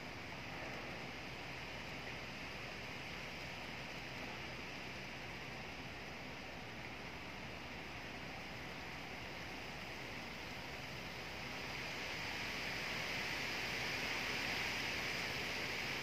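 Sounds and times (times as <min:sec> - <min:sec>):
wind rustling tree leaves: 0:00.0 - 0:16.0.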